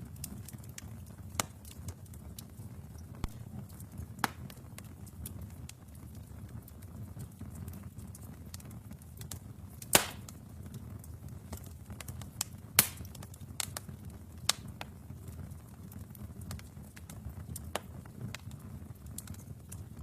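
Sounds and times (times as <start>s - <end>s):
burning logs popping: 0.0s - 20.0s
fire rumbling and crackling: 0.0s - 20.0s.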